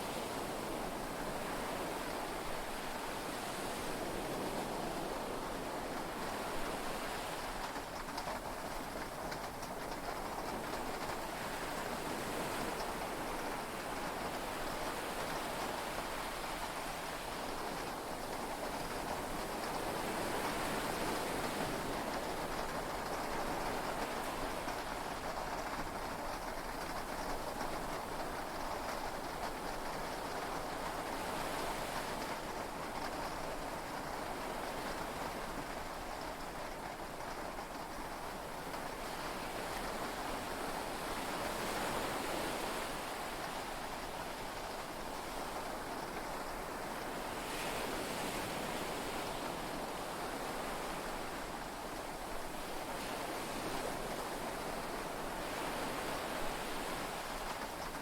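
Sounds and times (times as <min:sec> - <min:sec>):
heavy rain on a boat: 0:00.2 - 0:58.0.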